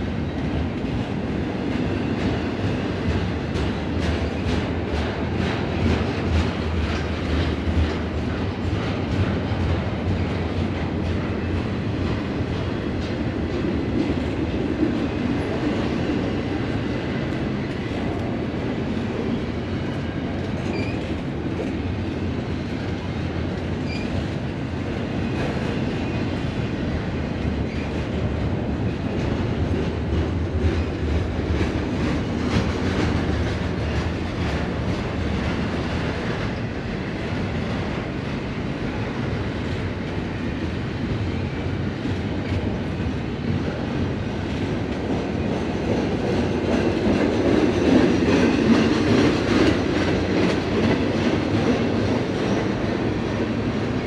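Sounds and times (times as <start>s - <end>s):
clickety-clack of rail joints: 0.0s - 54.0s
train wheels rumbling on rails: 0.0s - 54.0s.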